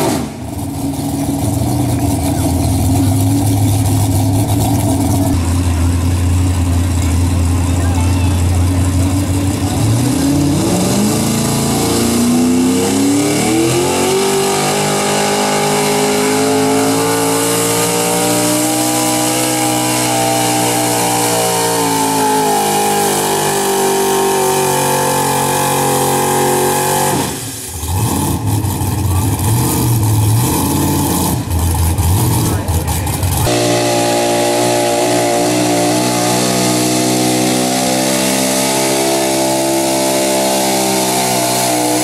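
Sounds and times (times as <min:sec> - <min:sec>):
truck engine revving under load: 0:00.0 - 0:42.0.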